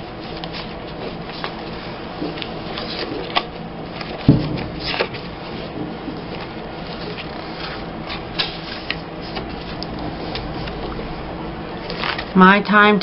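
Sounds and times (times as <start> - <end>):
paper cards rustling: 0.2 - 11.0, 11.8 - 12.7.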